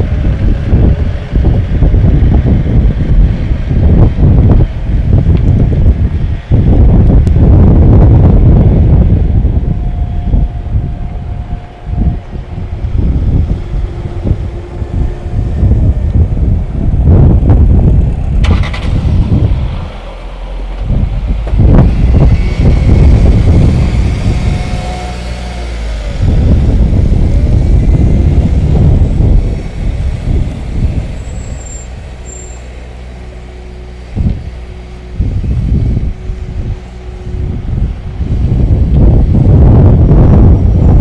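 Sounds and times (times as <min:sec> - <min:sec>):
vehicle engines in slow traffic: 0:00.0 - 0:41.0.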